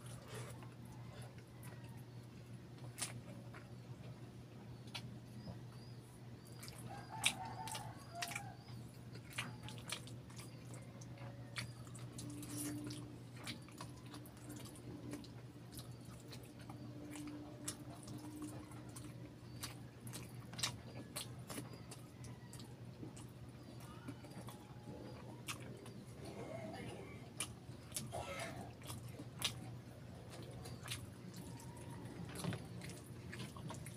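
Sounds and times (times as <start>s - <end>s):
wet chewing and biting: 0.0s - 33.9s.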